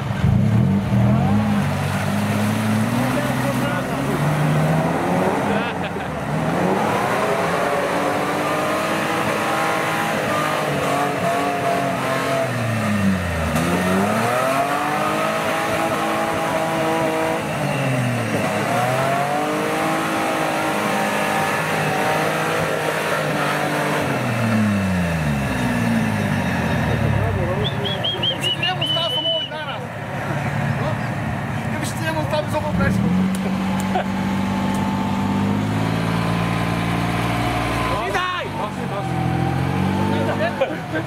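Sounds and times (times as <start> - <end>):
off-road engine revving hard: 0.0 - 29.3, 30.2 - 41.0.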